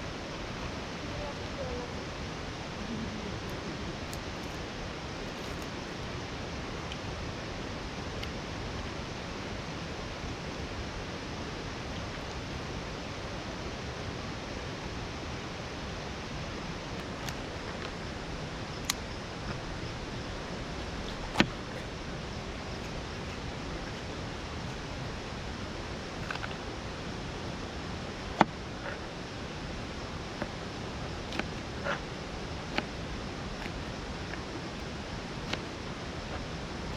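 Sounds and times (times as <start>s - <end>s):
steady rushing noise: 0.0s - 36.9s.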